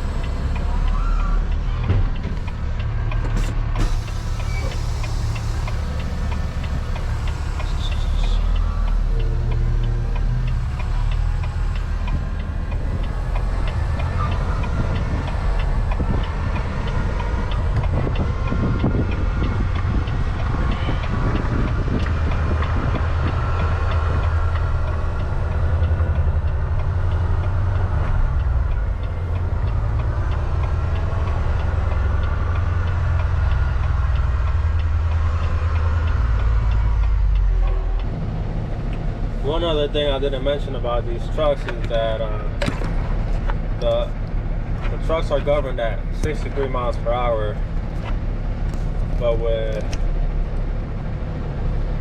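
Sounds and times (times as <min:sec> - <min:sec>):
light regular ticking: 0:00.0 - 0:52.0
road noise: 0:00.0 - 0:52.0
truck diesel engine droning: 0:00.0 - 0:52.0.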